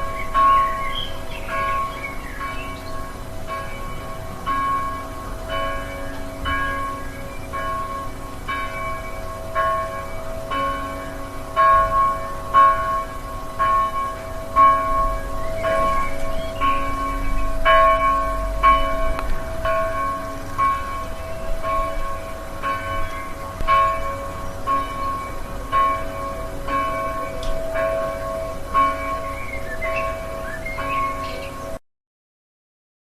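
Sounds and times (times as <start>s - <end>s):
church bell tolling: 0.0s - 31.8s.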